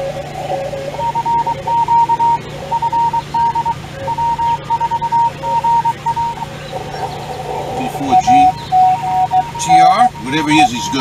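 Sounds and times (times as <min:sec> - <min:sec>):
high-pitched morse code beeps: 0:00.0 - 0:11.0
low-pitched morse code beeps: 0:00.0 - 0:11.0.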